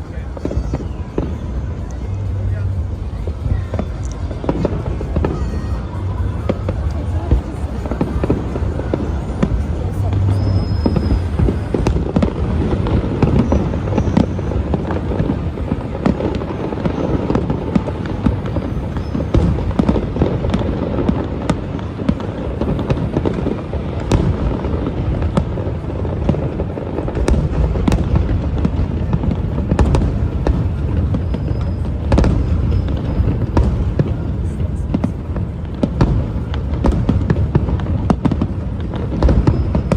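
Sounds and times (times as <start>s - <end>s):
fireworks bangs and crackles: 0.0s - 39.9s
sharp fireworks bangs: 0.0s - 39.9s.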